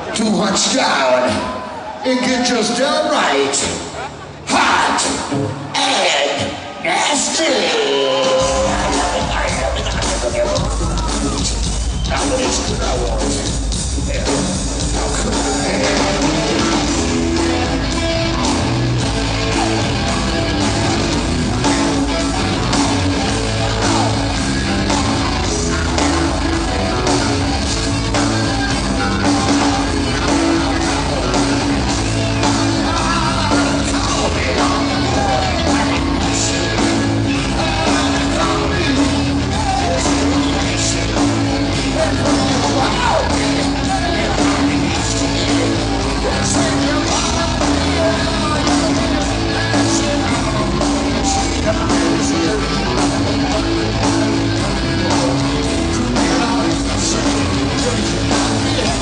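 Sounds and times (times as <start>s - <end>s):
man singing and shouting: 0.0s - 59.0s
rock band playing live: 0.0s - 59.0s.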